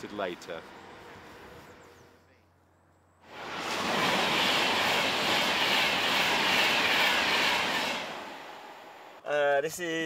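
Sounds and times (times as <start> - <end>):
passenger train passing: 0.0 - 2.2, 3.2 - 9.2.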